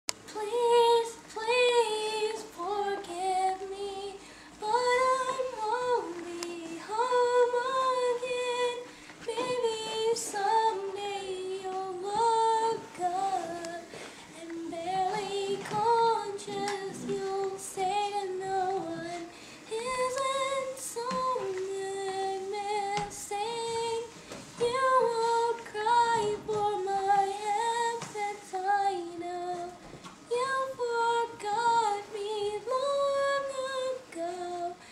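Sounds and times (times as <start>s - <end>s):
girl singing: 0.2s - 34.9s.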